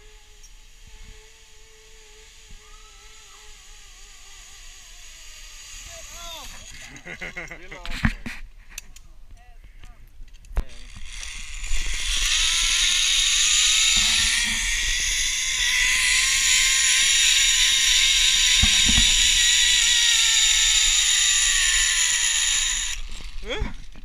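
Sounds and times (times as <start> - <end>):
zipline trolley pulleys whirring: 0.0 - 7.9, 10.7 - 24.0.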